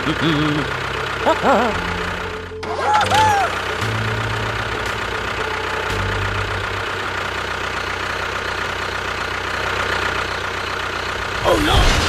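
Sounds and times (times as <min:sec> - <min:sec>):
engine idling with low chugging: 0:00.0 - 0:11.7.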